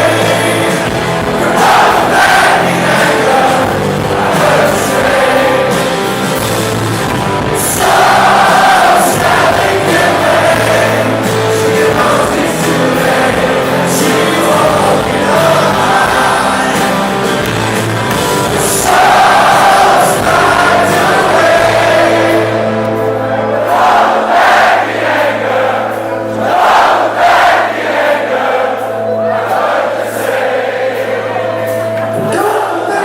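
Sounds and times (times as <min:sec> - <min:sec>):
crowd singing along: 0:00.0 - 0:33.0
live rock band playing: 0:00.0 - 0:33.0.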